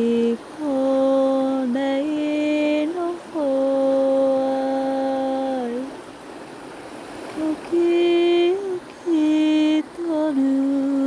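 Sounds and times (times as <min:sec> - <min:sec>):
person singing unaccompanied: 0:00.0 - 0:06.0, 0:07.3 - 0:11.0.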